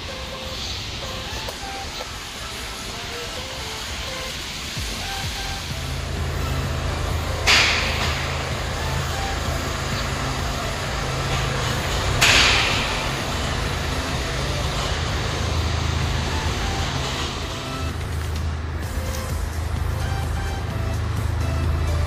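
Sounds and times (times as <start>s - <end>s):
low mechanical hum: 0.0s - 22.0s
short bursts of hiss: 0.0s - 22.0s.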